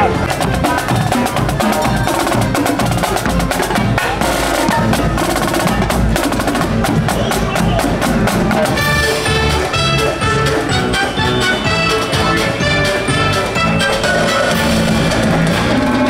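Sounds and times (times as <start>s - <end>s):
bass drum beats: 0.0s - 16.0s.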